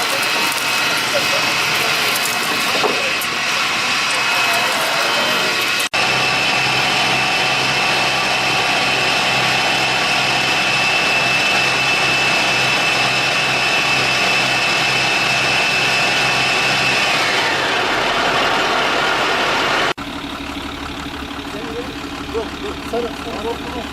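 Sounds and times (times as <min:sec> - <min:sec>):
engine running hard: 0:00.0 - 0:23.9.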